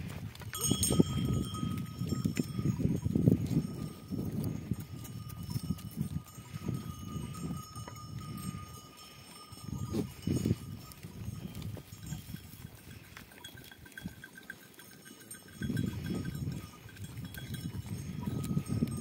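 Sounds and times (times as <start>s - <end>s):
goat hooves clattering on rocks: 0.0s - 19.0s.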